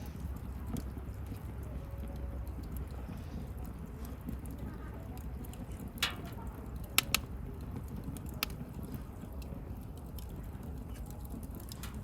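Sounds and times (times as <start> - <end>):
bonfire crackling and popping: 0.0 - 12.0
low rumble of burning fire: 0.0 - 12.0.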